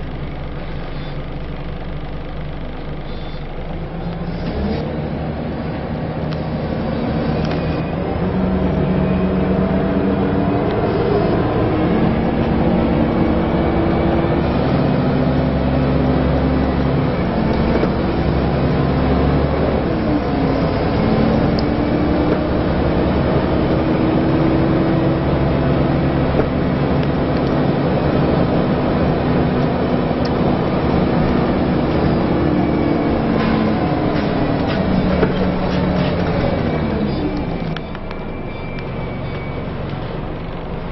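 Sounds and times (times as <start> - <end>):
bus diesel engine running: 0.0 - 40.9
road noise: 0.0 - 40.9.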